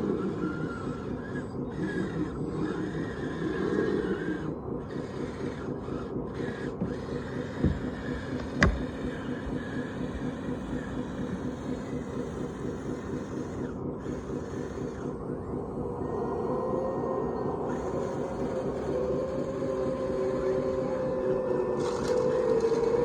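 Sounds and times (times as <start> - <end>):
model machine motors and hydraulics: 0.0 - 23.0.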